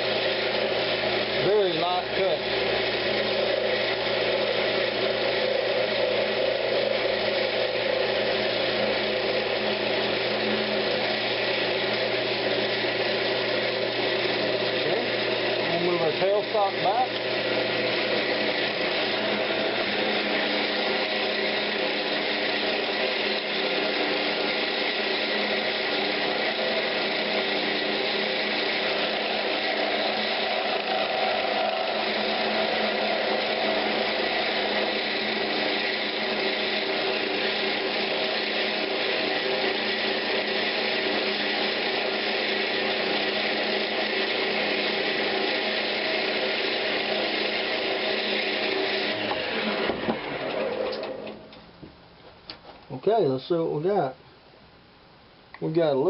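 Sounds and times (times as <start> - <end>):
wood lathe running: 0.0 - 51.6
turning tool cutting wood: 0.0 - 51.8.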